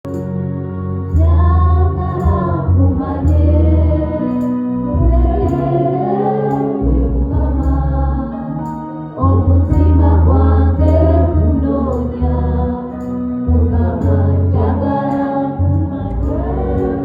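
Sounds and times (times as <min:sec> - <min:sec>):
choir singing gospel music: 0:00.2 - 0:17.0.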